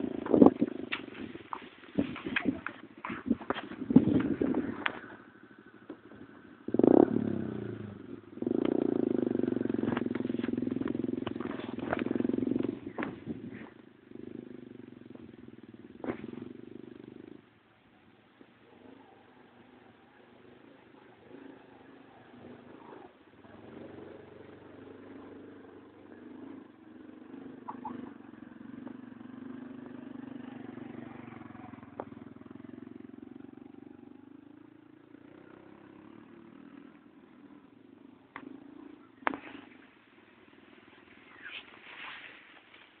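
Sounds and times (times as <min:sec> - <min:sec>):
small motorcycle engine passing: 0:00.0 - 0:43.0.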